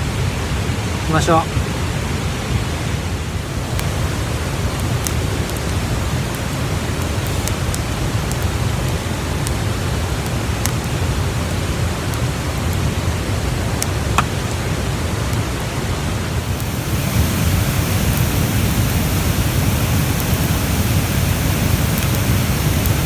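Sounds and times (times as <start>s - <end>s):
steady rushing noise: 0.0s - 23.0s
campfire crackling and popping: 3.4s - 23.0s.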